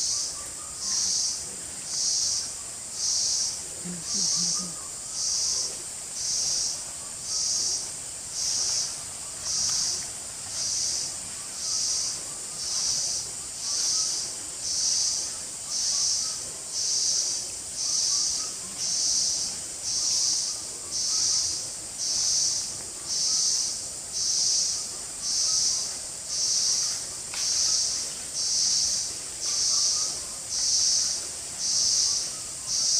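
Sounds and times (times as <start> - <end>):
high-pitched insect whine: 0.0 - 32.9
insects buzzing: 0.0 - 32.9.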